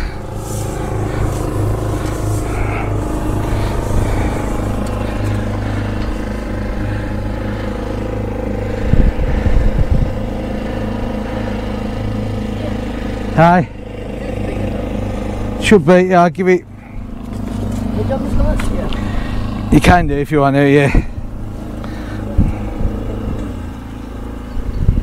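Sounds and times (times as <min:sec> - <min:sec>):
engine idling: 0:00.0 - 0:25.0
low rumbles: 0:00.0 - 0:25.0.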